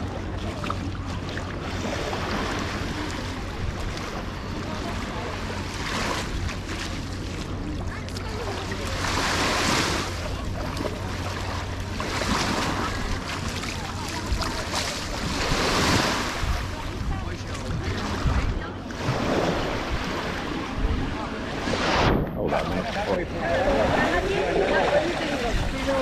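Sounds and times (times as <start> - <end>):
small waves washing on sand: 0.0 - 26.0
wind rumble on microphone: 0.0 - 26.0.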